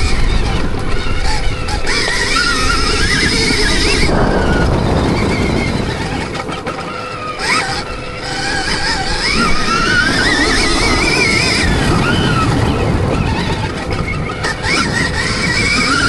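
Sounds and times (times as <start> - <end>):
dirt bike engine revving: 0.0 - 16.0
wind rumble on microphone: 0.0 - 16.0.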